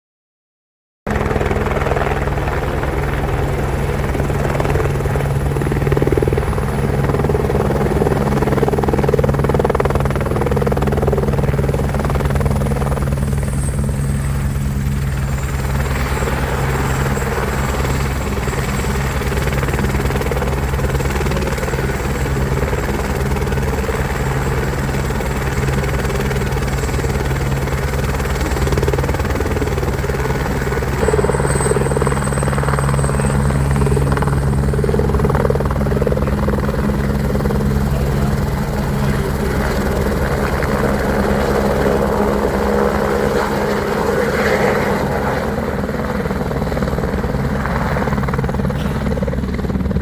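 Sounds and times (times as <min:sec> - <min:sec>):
helicopter rotor pulsing: 0:01.1 - 0:50.0.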